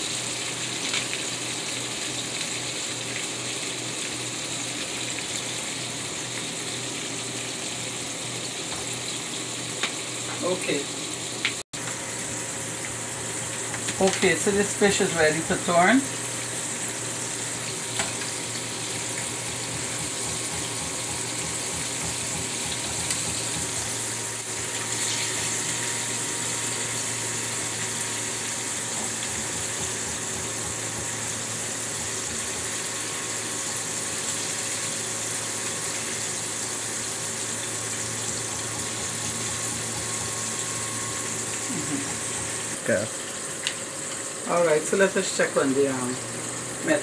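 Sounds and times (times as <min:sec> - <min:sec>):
fish sizzling in hot oil: 0:00.0 - 0:47.0.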